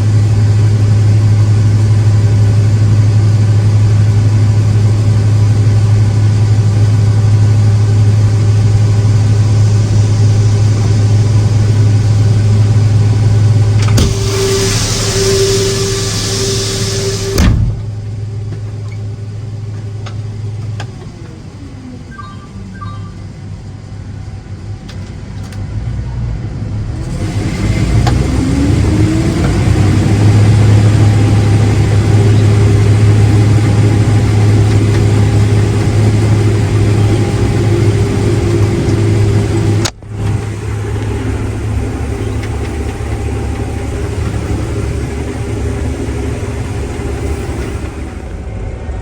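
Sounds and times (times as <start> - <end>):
large diesel engine humming: 0.0 - 49.0.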